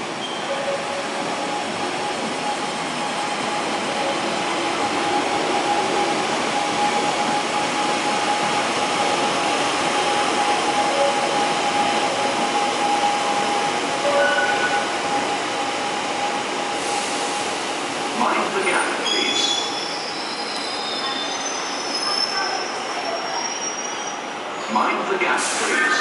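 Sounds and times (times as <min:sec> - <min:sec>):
train whine: 0:00.0 - 0:23.4
train rushing rumble: 0:00.0 - 0:26.0.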